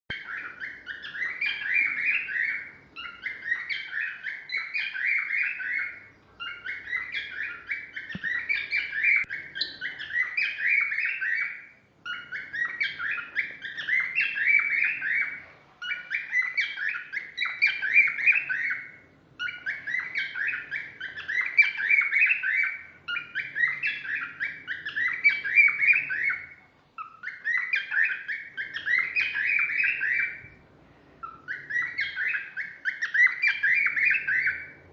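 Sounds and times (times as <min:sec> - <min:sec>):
cockatiel warbling chirps: 0:00.1 - 0:30.6, 0:31.2 - 0:34.9.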